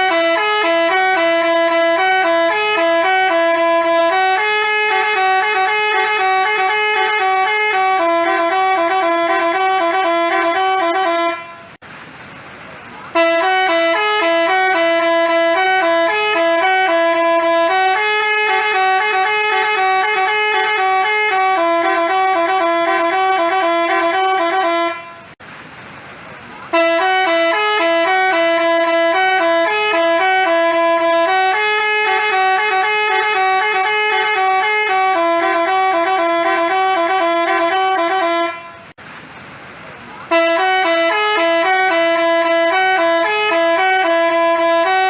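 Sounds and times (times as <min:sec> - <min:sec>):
musical bus horn tune: 0:00.0 - 0:11.8, 0:13.1 - 0:25.4, 0:26.7 - 0:39.0, 0:40.3 - 0:45.0.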